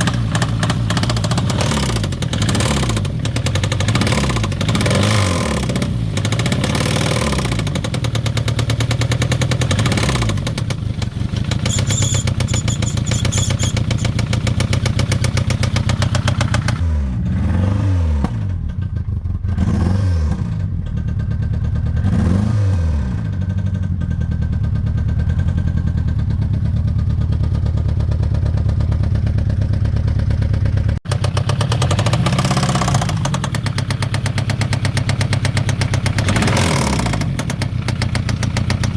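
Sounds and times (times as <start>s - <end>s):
car engine knocking and revving: 0.0s - 38.9s.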